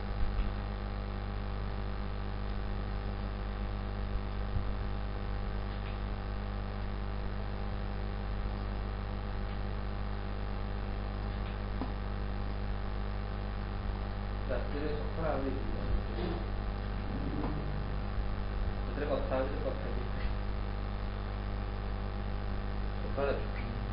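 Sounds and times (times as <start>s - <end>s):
electrical mains hum: 0.0s - 23.9s.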